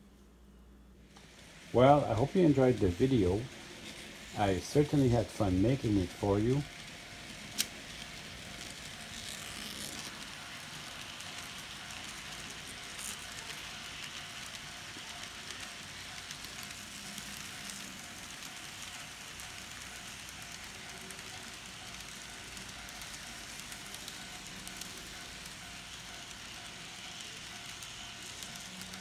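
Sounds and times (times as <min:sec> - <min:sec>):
faint steady hum: 0:00.0 - 0:29.0
model train wheels rattling on rails: 0:01.1 - 0:29.0.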